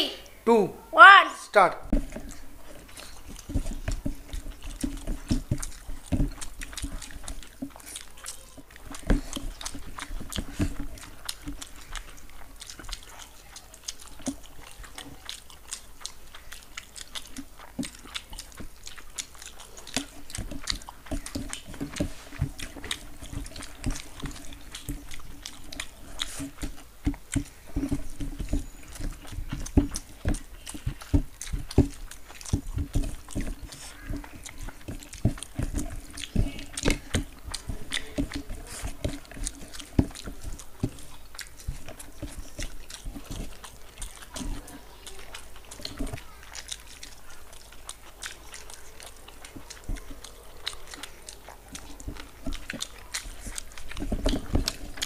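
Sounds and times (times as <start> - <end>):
wet chewing and lip-smacking: 1.8 - 55.0.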